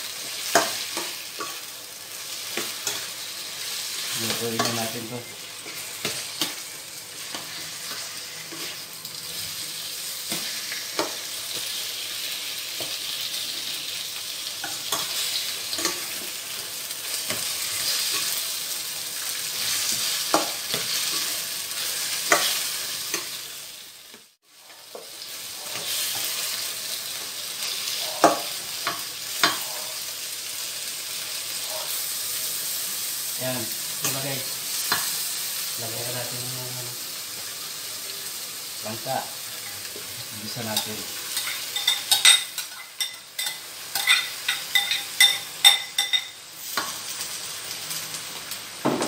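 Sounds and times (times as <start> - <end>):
food sizzling in a pan: 0.0 - 49.0.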